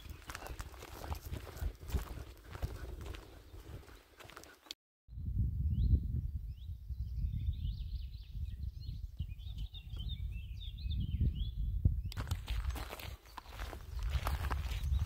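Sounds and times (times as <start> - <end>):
wind buffeting microphone: 0.0 - 4.4, 5.1 - 15.0
songbird singing: 0.0 - 15.0.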